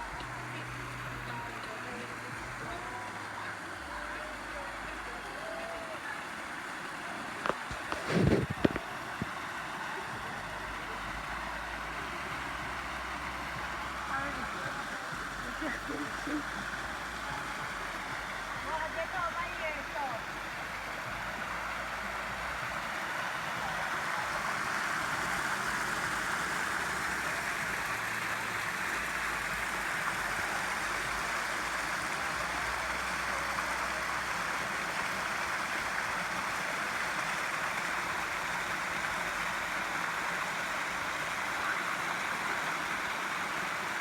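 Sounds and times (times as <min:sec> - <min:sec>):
stream rushing: 0:00.0 - 0:44.0.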